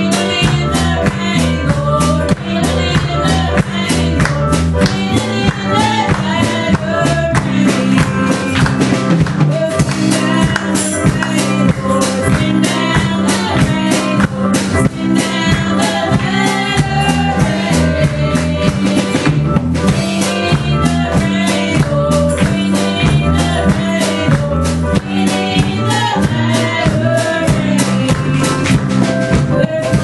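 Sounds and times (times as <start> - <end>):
women singing: 0.0 - 8.9, 9.5 - 30.0
drum kit beat: 0.0 - 30.0
electric keyboard: 0.0 - 30.0.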